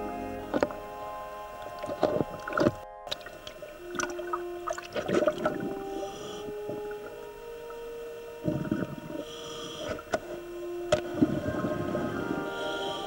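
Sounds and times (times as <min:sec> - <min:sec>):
slow held synthesizer notes: 0:00.0 - 0:13.0.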